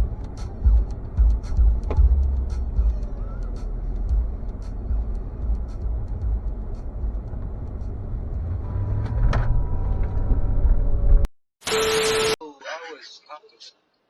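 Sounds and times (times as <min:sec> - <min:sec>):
vehicle engine rumbling: 0:00.0 - 0:11.3.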